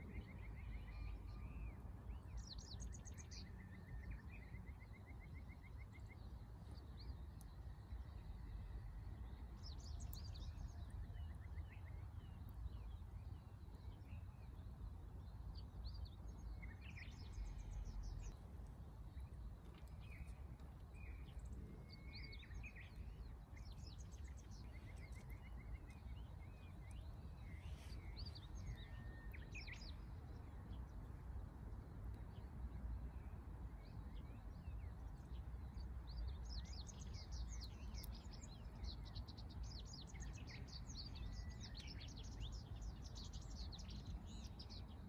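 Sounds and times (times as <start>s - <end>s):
wild birds chirping and singing: 0.0s - 31.0s, 33.8s - 45.0s.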